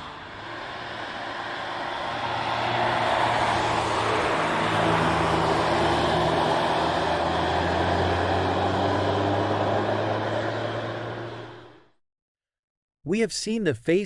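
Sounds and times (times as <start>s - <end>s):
tyre and road noise: 0.0s - 11.8s.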